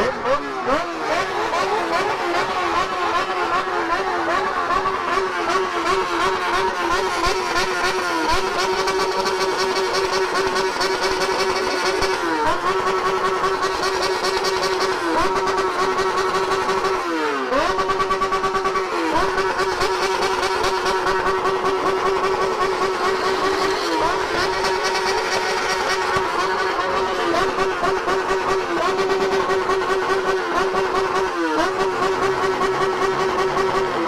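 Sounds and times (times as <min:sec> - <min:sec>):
motorcycle engine revving high: 0:00.0 - 0:34.0.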